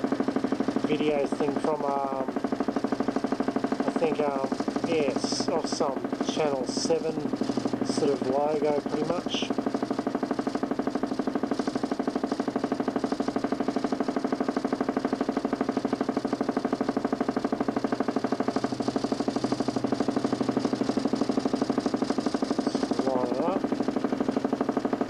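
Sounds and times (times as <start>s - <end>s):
motor spinning disc with pulsing drone: 0.0s - 25.0s.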